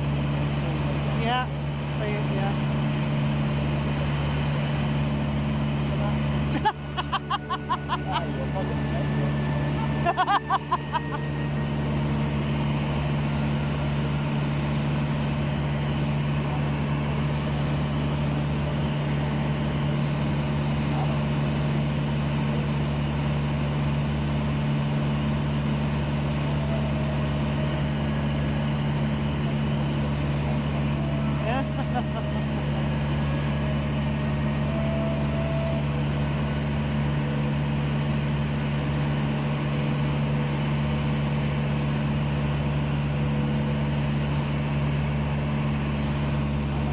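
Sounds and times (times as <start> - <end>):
aircraft engine droning in cabin: 0.0 - 46.9.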